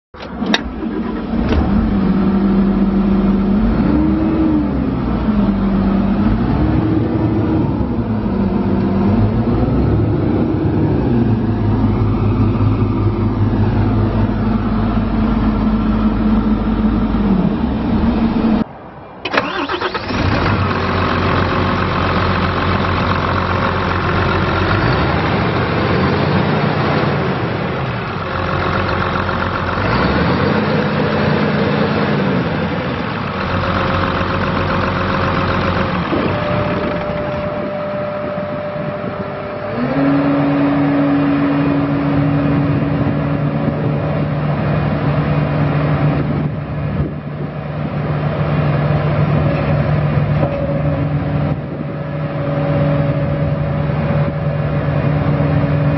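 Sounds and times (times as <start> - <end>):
diesel engine revving: 0.2 - 55.9.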